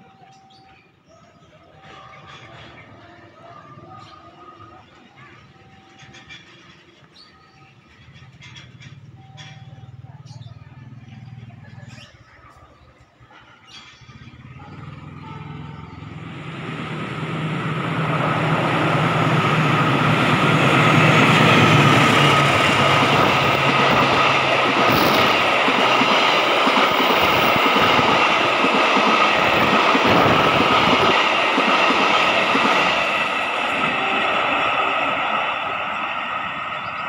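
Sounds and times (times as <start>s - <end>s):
low locomotive engine drone: 1.6s - 37.0s
train wheels rumbling on rails: 1.8s - 12.1s, 13.3s - 37.0s.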